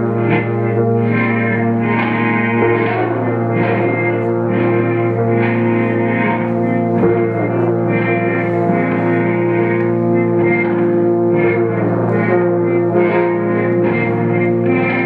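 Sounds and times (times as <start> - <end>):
electric guitar through effects: 0.0 - 15.0
sustained drone tones: 0.0 - 15.0.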